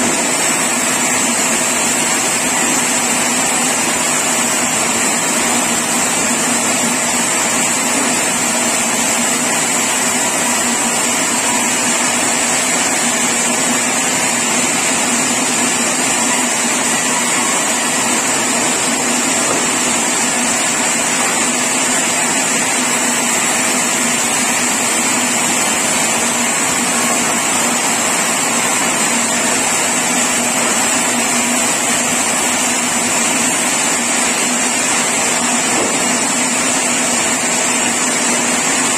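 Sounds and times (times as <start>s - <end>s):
high machine whine: 0.0s - 38.9s
sawmill machinery drone: 0.0s - 38.9s.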